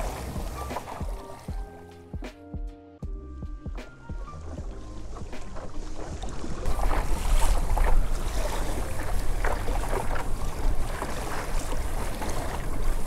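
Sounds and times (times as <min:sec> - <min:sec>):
wind buffeting microphone: 0:00.0 - 0:01.6, 0:04.0 - 0:13.0
little splashes: 0:00.0 - 0:02.0, 0:04.0 - 0:13.0
waves lapping against hull: 0:00.0 - 0:02.2, 0:03.7 - 0:13.0.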